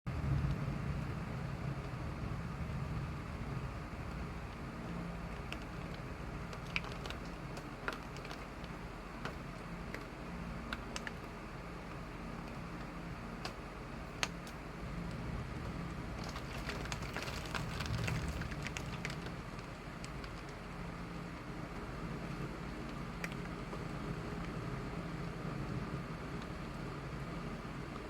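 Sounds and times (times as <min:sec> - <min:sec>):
rain falling: 0:00.1 - 0:28.0.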